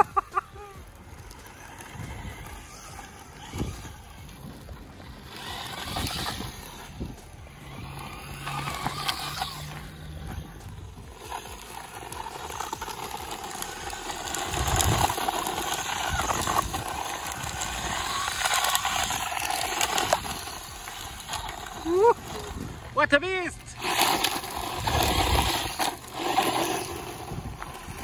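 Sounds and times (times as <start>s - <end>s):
electric motor running: 0.0s - 28.0s
tyres scrabbling over gravel: 0.0s - 28.0s.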